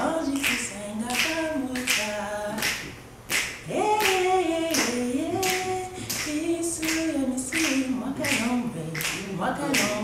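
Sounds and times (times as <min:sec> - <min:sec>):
woman singing unaccompanied: 0:00.0 - 0:03.0, 0:03.6 - 0:10.0
sharp hand claps: 0:00.3 - 0:10.0.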